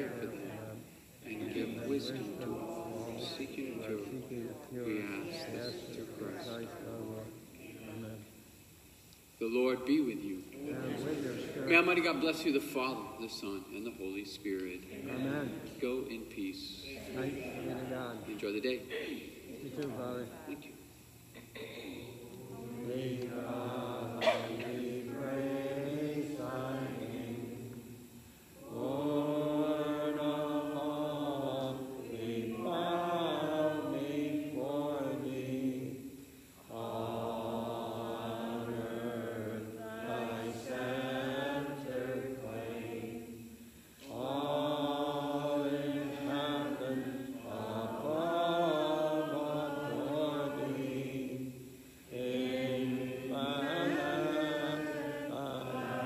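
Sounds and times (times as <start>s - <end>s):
unaccompanied hymn singing: 0.0s - 56.0s.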